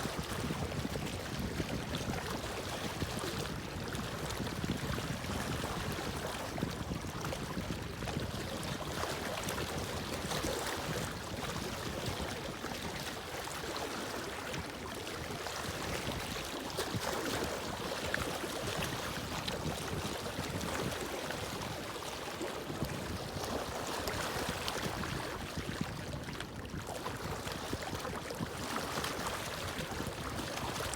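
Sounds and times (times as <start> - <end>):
water lapping with small waves: 0.0 - 30.9.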